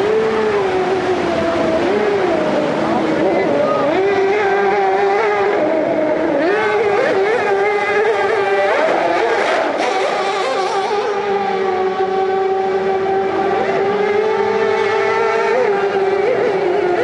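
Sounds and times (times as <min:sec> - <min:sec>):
outboard engine at high revs: 0:00.0 - 0:17.0
rapids rushing: 0:00.0 - 0:17.0.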